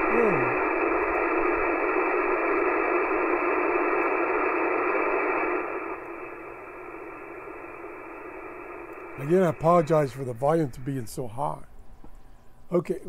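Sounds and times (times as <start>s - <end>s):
shortwave radio hiss: 0.0s - 13.0s.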